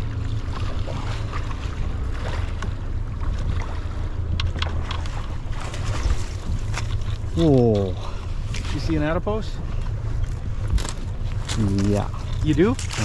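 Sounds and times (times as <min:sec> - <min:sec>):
boat motor rumbling: 0:00.0 - 0:13.0.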